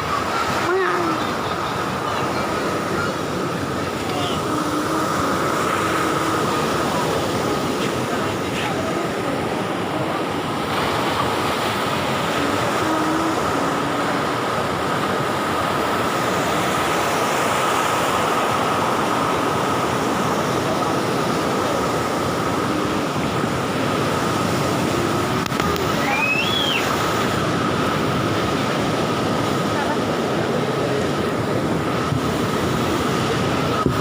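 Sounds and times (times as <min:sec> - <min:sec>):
big waves rushing: 0:00.0 - 0:34.0
thin steady whine: 0:00.0 - 0:34.0.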